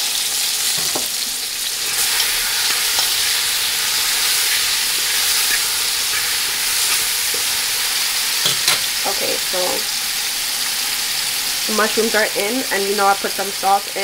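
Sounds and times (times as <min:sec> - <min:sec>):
mushrooms sizzling in oil: 0:00.0 - 0:14.0.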